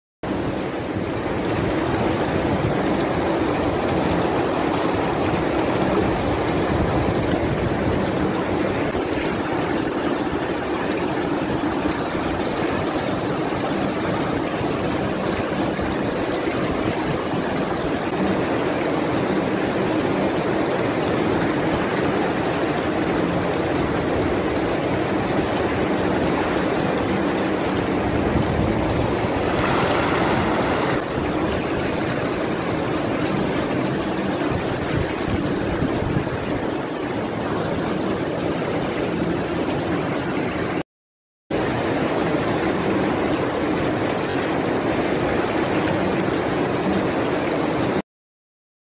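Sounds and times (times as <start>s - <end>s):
small waterfall pouring over rocks: 0.3s - 40.8s, 41.5s - 48.0s.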